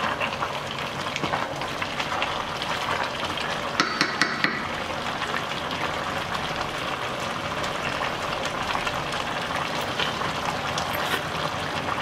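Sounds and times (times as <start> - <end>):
pot simmering with bubbling hiss: 0.0 - 12.0.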